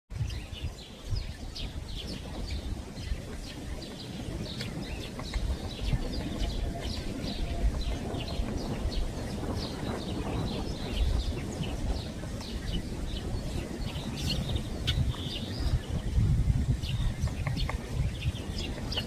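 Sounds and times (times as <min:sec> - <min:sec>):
small birds chirping: 0:00.2 - 0:19.0
steady low rumble: 0:00.2 - 0:19.0.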